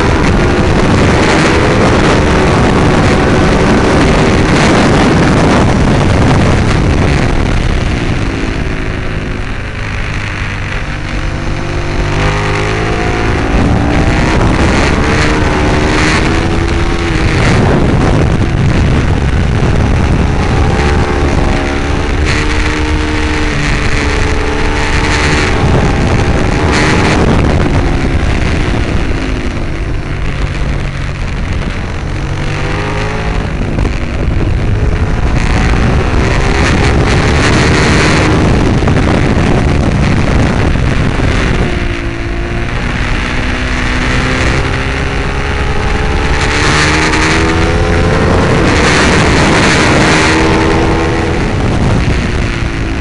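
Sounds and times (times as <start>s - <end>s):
motorcycle engine racing: 0.0s - 53.0s
wind on microphone: 0.0s - 53.0s.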